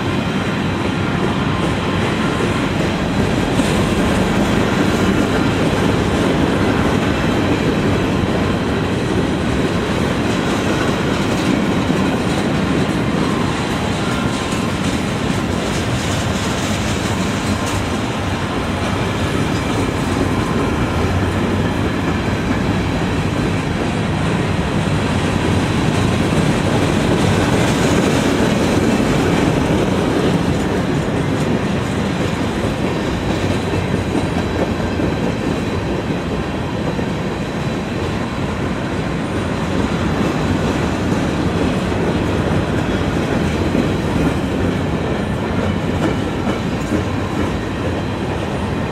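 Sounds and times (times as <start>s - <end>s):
train rumbling by: 0.0s - 48.9s
wheels clacking over rails: 1.5s - 38.4s, 39.5s - 48.9s.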